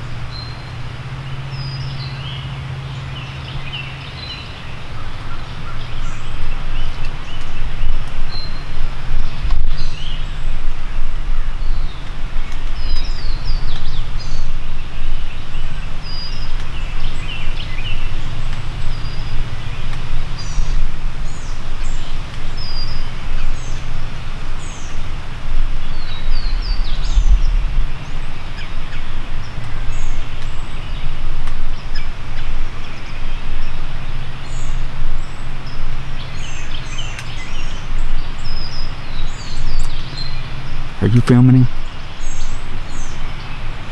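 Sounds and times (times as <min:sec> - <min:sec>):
wind buffeting microphone: 0:00.0 - 0:41.0
songbirds chirping: 0:00.0 - 0:43.9.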